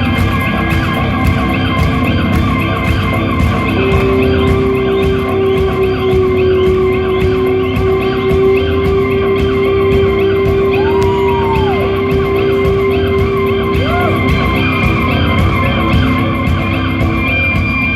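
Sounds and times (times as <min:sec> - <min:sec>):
electric guitar: 0:00.0 - 0:17.9
live rock band: 0:00.0 - 0:17.9.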